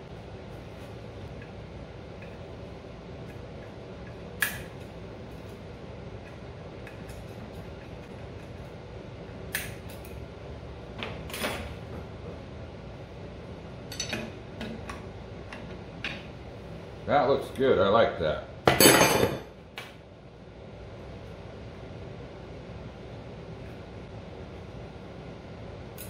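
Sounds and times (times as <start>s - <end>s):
room noise: 0.0s - 26.0s.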